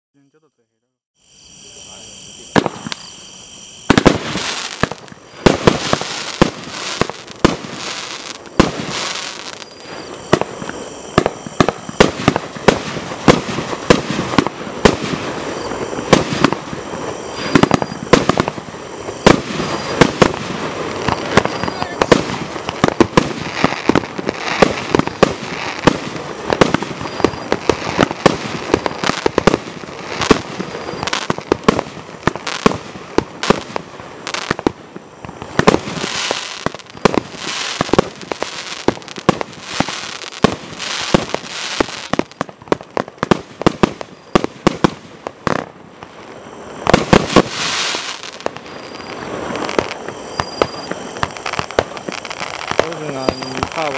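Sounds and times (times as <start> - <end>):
firework crackling: 1.3 - 53.9.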